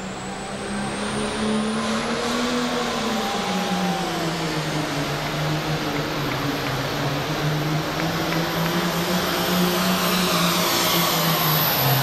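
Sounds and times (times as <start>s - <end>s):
high turbo whine: 0.0s - 12.0s.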